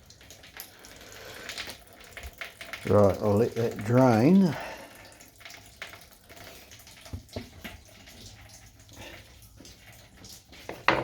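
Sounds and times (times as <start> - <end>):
petrol trickling: 0.0 - 11.0.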